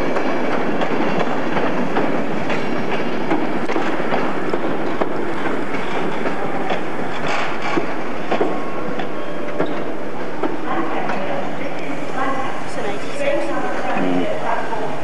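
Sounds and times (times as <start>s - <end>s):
train wheels rumbling on rails: 0.0s - 13.8s.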